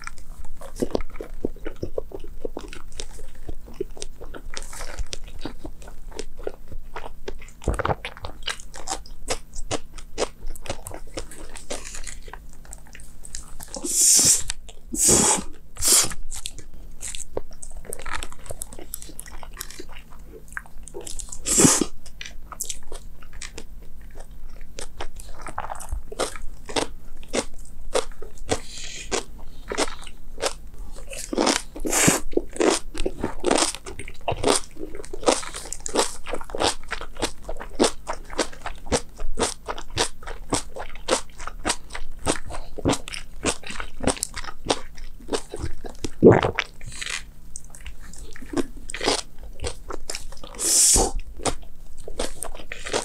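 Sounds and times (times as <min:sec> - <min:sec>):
person chewing crisp food: 0:00.0 - 0:53.0.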